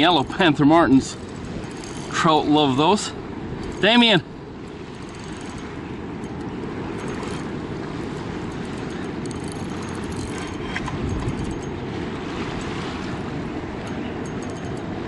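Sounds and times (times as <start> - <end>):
fast river water roaring: 0.0 - 15.0.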